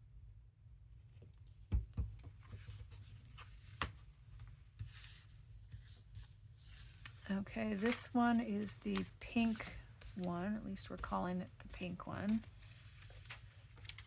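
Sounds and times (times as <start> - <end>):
low steady hum: 0.0 - 14.0
paper pages rustling and sliding: 2.4 - 14.0.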